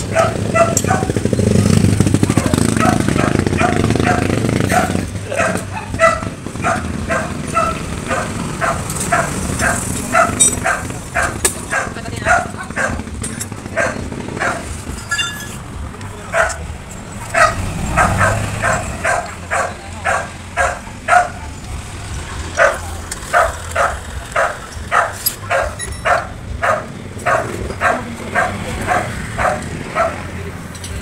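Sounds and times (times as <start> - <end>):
dog barking: 0.0 - 15.3, 16.3 - 21.6, 22.2 - 30.4.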